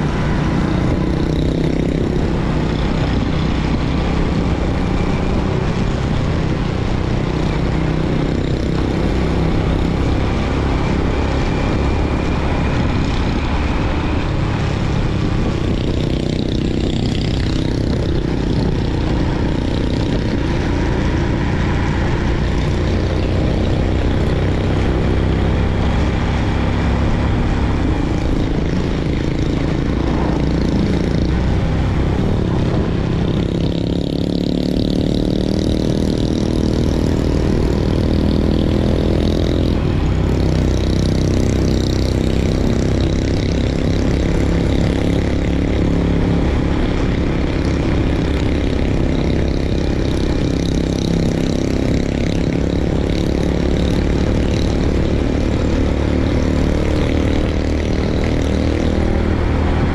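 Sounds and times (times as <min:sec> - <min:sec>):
motorbike engine running: 0:00.0 - 0:59.9
wind and road noise: 0:00.0 - 0:59.9.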